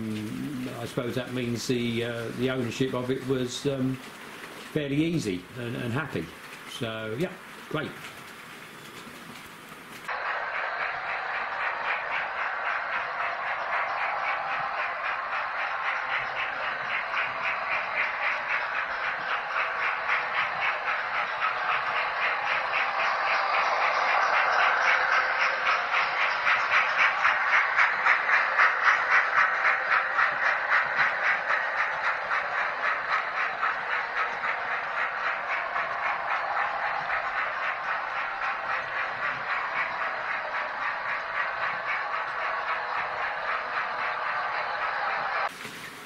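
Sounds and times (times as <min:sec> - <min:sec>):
model train wheels clicking: 0:00.0 - 0:46.0.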